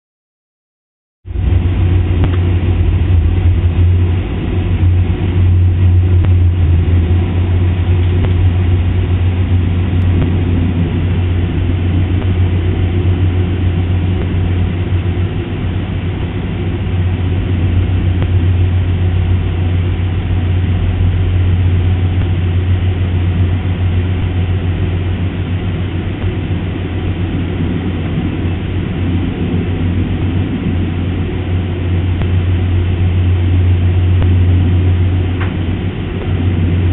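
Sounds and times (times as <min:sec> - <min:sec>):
jet cabin engine drone: 0:01.3 - 0:36.9.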